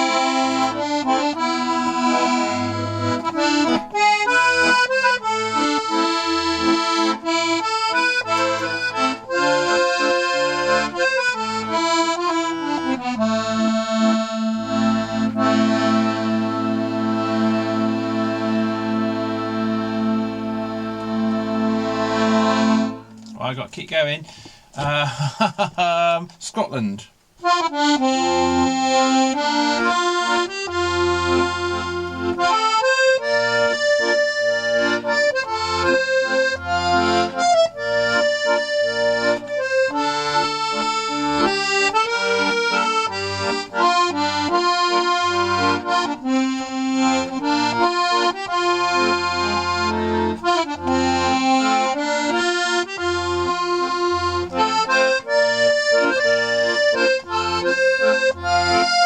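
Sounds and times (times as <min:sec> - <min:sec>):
accordion playing folk tune: 0:00.0 - 0:24.6, 0:27.4 - 0:59.0.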